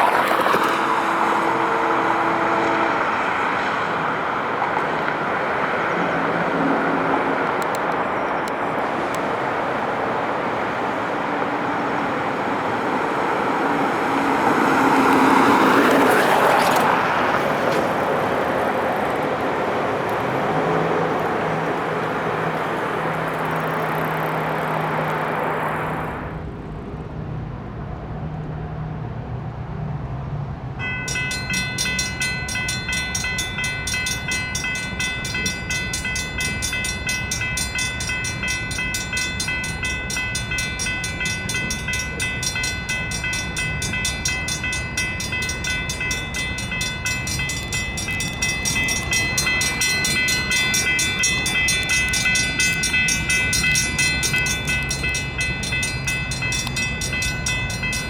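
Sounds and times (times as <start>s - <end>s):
railroad crossing bells clanging: 0.0s - 26.1s, 30.8s - 58.0s
train rumbling: 0.0s - 58.0s.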